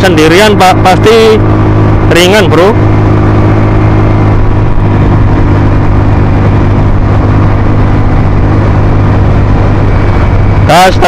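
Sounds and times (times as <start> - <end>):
scooter engine running uphill: 0.0 - 11.0.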